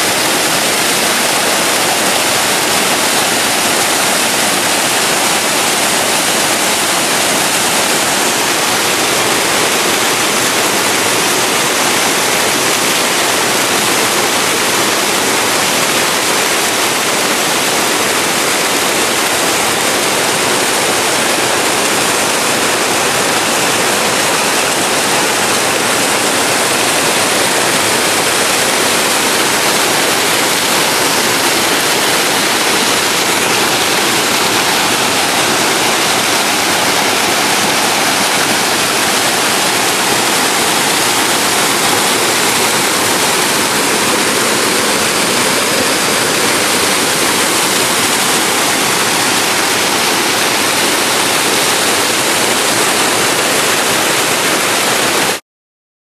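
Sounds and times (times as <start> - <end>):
waterfall rushing: 0.0 - 55.4.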